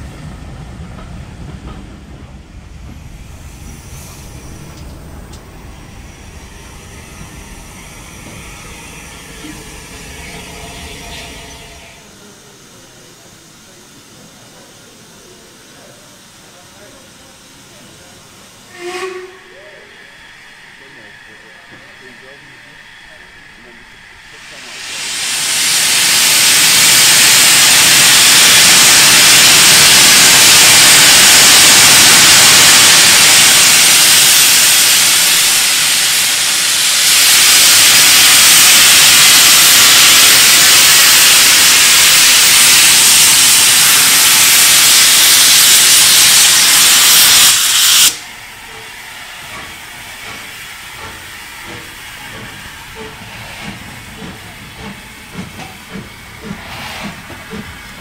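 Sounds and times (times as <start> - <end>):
loud steam hiss: 2.6 - 58.0.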